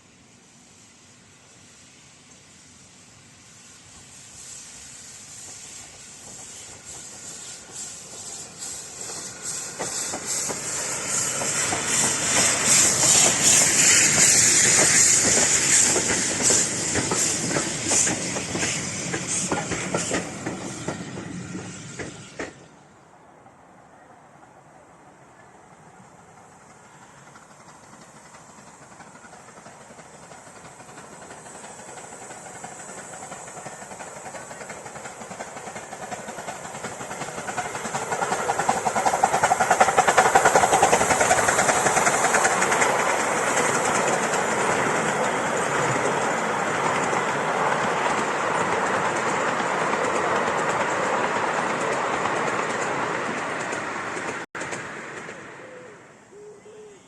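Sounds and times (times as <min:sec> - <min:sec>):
steam train passing: 0:00.0 - 0:57.0.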